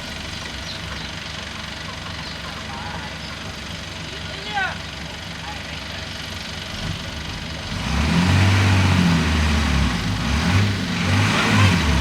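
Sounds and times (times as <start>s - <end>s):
bulldozer diesel engine under load: 0.0s - 12.0s.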